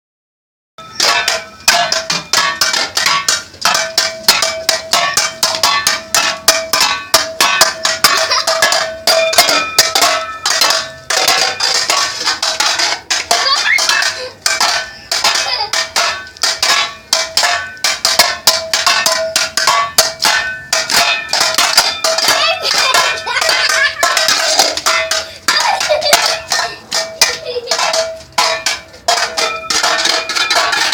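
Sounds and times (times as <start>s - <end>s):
banging on metal: 0.8s - 30.9s
metallic ringing: 0.8s - 30.9s.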